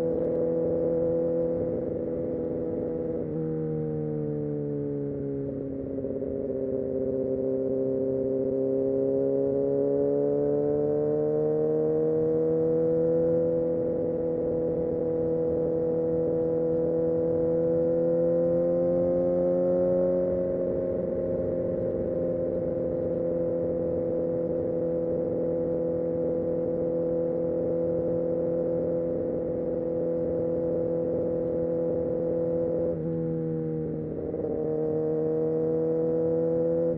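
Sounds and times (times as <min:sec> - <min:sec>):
motorcycle engine cruising: 0:00.0 - 0:36.9.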